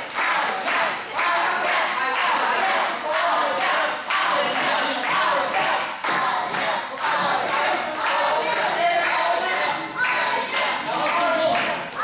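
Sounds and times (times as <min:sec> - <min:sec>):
crowd clapping in rhythm: 0:00.0 - 0:12.0.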